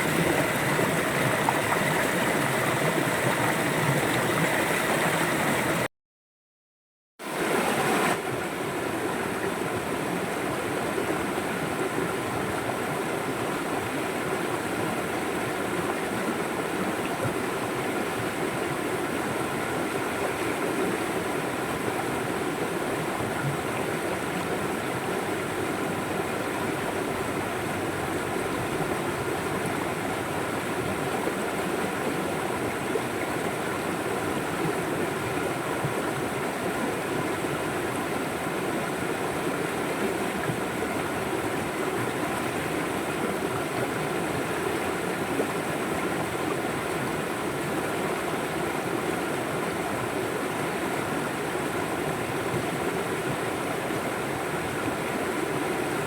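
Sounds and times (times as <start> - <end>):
river water flowing: 0.0 - 5.9, 7.3 - 56.0.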